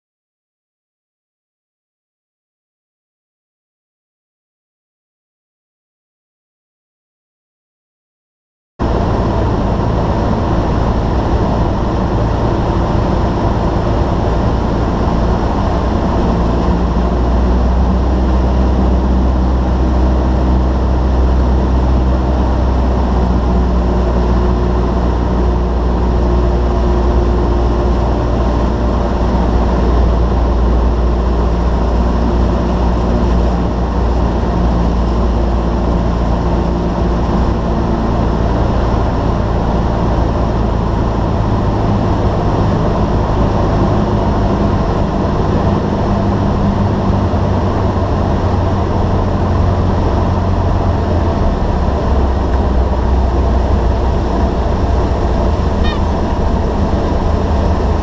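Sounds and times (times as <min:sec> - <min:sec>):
airplane engine and propeller droning: 0:08.8 - 0:58.0.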